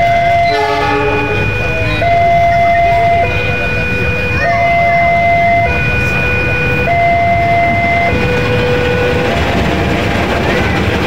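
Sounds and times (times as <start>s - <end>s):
diesel locomotive rumbling past: 0.0s - 11.0s
two-tone crossing alarm: 0.0s - 11.0s.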